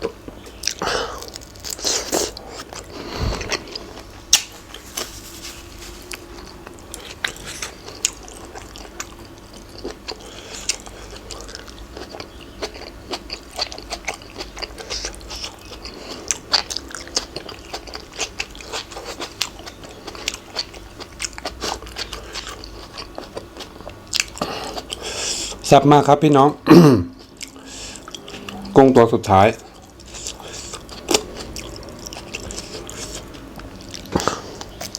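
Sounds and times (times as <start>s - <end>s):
person chewing and crunching: 0.0s - 25.7s, 27.2s - 34.9s.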